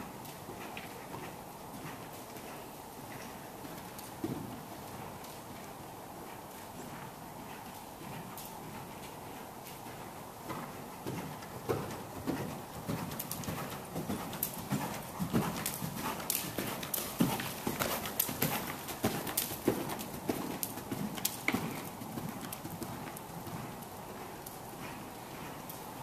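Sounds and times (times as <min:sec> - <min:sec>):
hoofbeats on dirt: 0:00.2 - 0:26.0.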